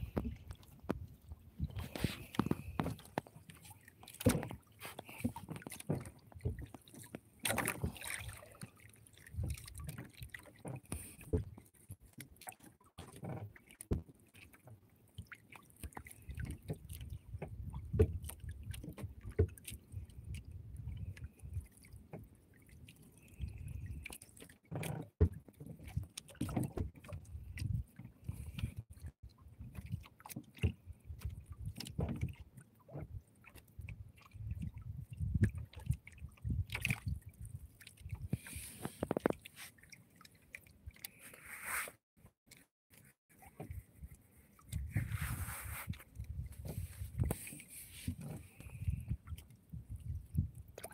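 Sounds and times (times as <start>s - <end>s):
water sloshing: 0.0s - 50.9s.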